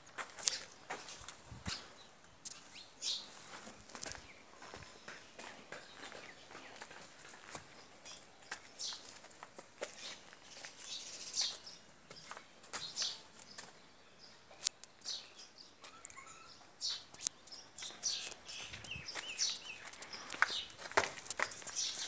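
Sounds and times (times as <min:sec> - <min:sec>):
small birds chirping: 0:00.4 - 0:22.0.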